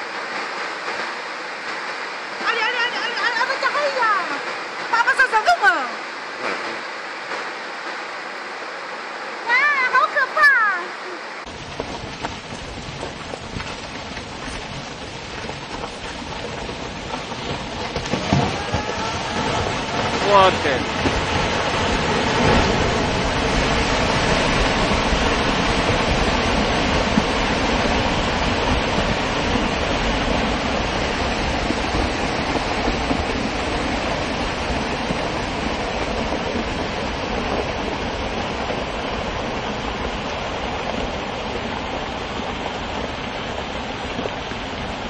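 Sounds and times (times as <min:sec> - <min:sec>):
rockslide rumble and clatter: 0:00.0 - 0:05.8, 0:11.4 - 0:45.0.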